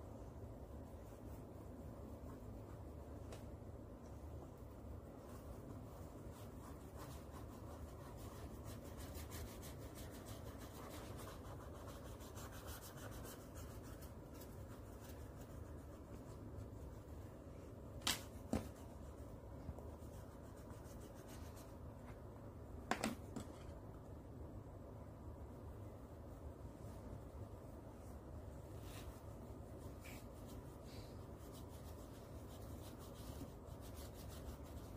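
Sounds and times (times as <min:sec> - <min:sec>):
paintbrush scrubbing on paper: 0:00.0 - 0:03.3, 0:04.2 - 0:22.0, 0:25.9 - 0:34.9.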